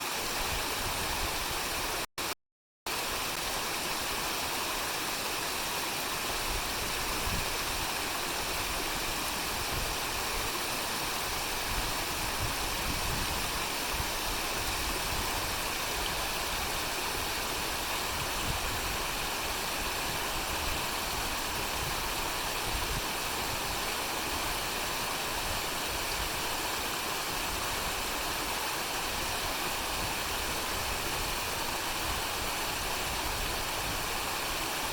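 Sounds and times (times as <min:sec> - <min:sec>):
waterfall rushing and splashing: 0:00.0 - 0:02.3, 0:02.9 - 0:34.9.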